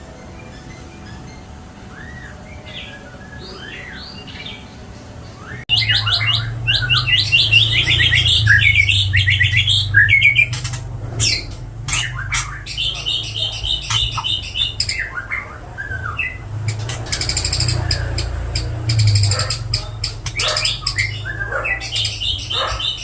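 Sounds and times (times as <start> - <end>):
bird singing varied song: 0.0 - 23.0
steady low hum: 0.0 - 23.0.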